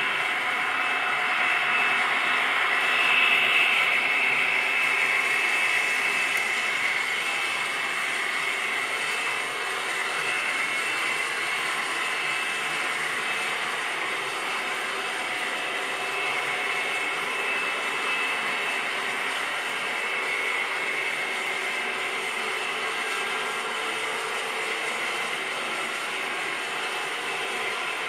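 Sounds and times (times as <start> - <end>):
locomotive motors whining: 0.0 - 28.0
model train wheels whirring on rail: 0.0 - 28.0.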